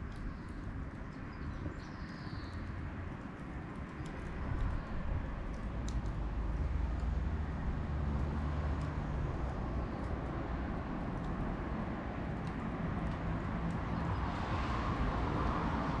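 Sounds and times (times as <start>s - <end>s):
bonfire crackles: 0.0s - 16.0s.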